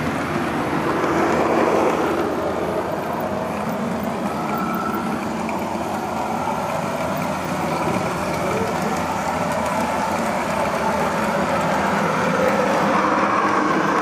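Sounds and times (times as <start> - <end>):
model train rumbling on track: 0.0 - 14.0.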